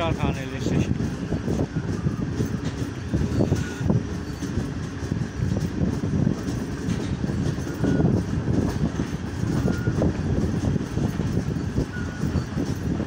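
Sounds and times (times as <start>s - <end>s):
train rumbling on track: 0.0s - 13.0s
wheels clattering over rail joints: 0.0s - 13.0s.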